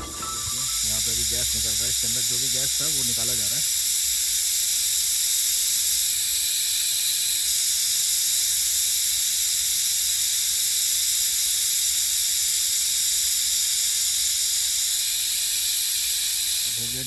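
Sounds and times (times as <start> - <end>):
high-pitched gas hiss: 0.0 - 17.0.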